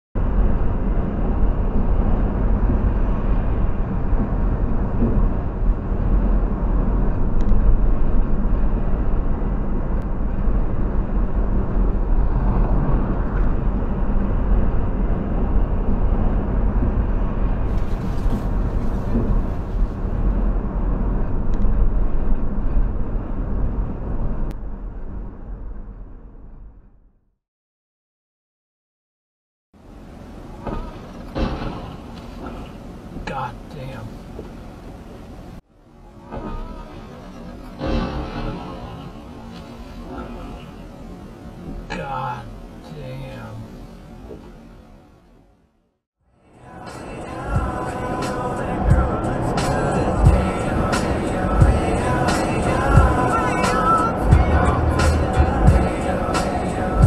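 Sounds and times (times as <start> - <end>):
car cabin road noise: 0.2 - 26.4, 29.8 - 57.0.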